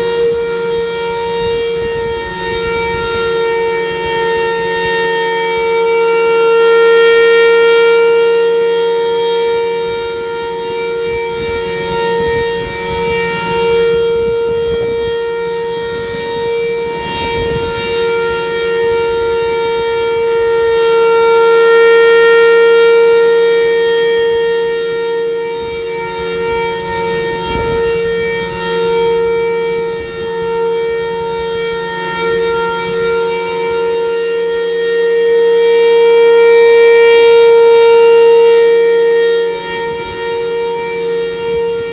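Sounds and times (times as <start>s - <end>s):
siren wailing: 0.0s - 41.9s.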